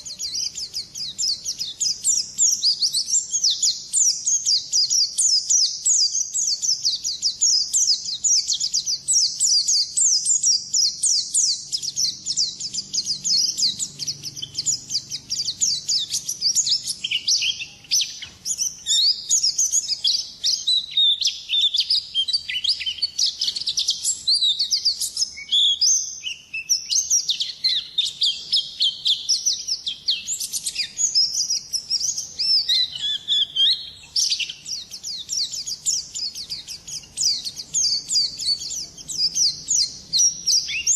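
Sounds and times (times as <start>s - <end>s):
bird rapid high chirping song: 0.0s - 40.9s.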